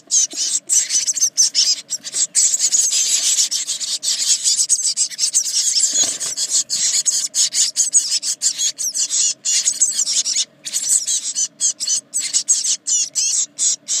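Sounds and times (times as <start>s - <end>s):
nestlings begging calls: 0.0s - 14.0s.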